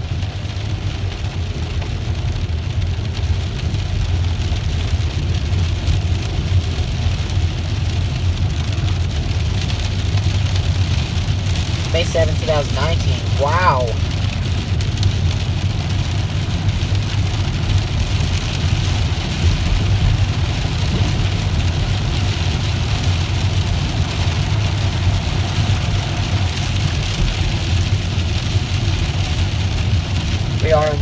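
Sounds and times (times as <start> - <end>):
car rumbling inside cabin: 0.0 - 31.0
rain hissing on car: 0.0 - 31.0.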